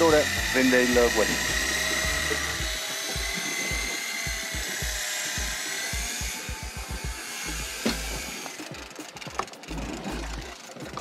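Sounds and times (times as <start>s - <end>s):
electric fishing reel motor whining: 0.0s - 11.0s.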